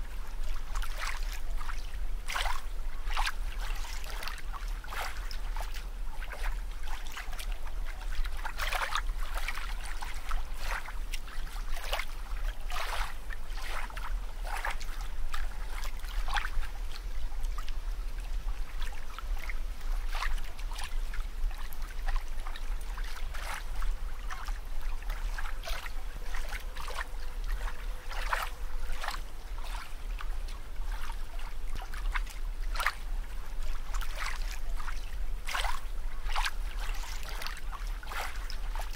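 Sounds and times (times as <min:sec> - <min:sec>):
water splashing and bubbling: 0:00.0 - 0:38.9.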